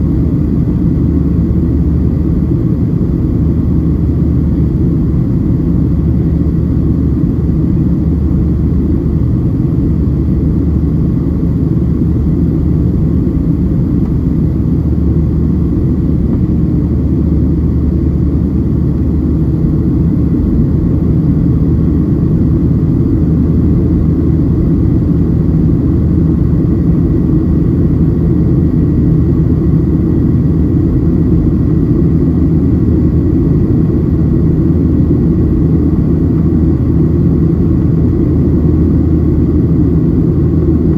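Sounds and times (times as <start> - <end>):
airplane cabin engine roar: 0.0 - 40.9.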